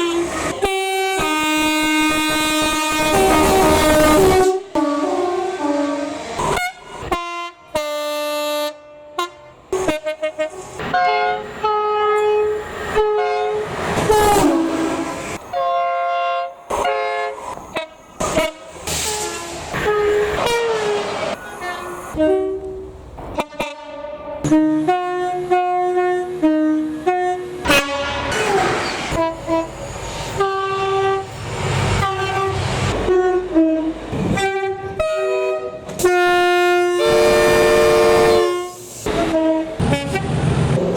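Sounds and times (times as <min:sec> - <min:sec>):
train horns tooting: 0:00.0 - 0:40.5
passing train: 0:00.0 - 0:40.9.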